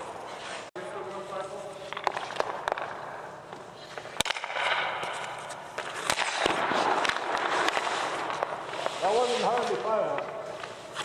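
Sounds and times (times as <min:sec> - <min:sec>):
hockey sticks striking pucks: 0:00.0 - 0:11.0
skates scraping on ice: 0:00.0 - 0:11.0.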